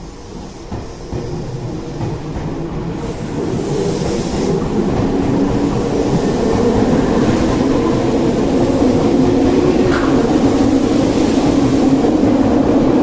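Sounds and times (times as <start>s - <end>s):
electric train rumble and hum: 0.0s - 13.0s.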